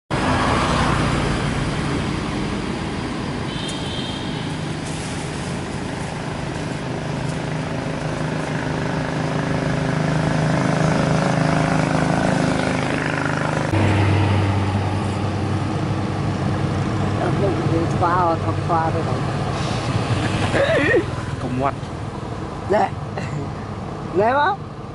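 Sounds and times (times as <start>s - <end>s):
outdoor noise: 0.1s - 24.9s.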